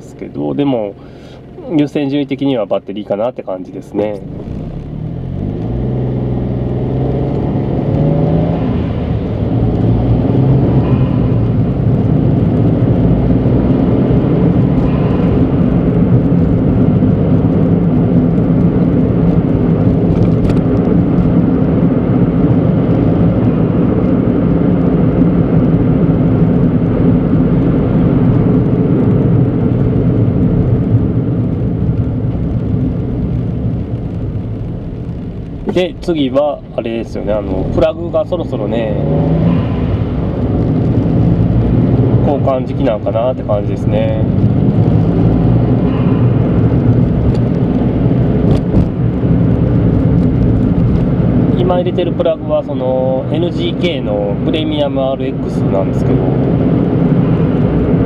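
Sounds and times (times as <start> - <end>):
car engine from inside cabin: 0.0 - 58.0
road noise: 0.0 - 58.0.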